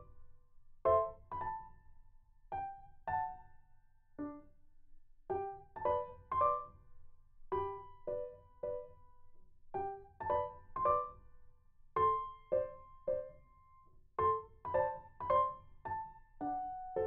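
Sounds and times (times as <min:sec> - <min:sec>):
slow gentle piano melody: 0:00.0 - 0:04.7, 0:05.3 - 0:17.0.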